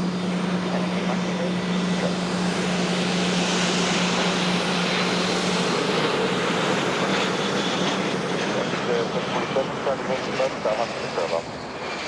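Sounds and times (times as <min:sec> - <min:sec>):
jet engine roar: 0:00.0 - 0:12.0
low hum: 0:00.0 - 0:12.0.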